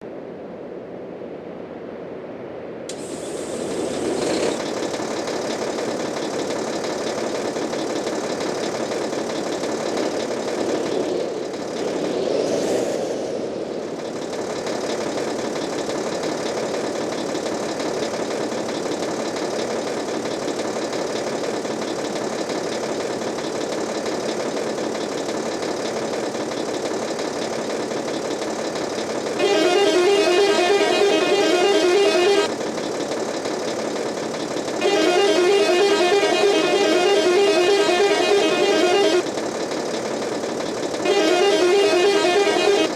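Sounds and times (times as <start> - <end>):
bus diesel engine idling: 2.9 - 12.2, 13.8 - 42.9.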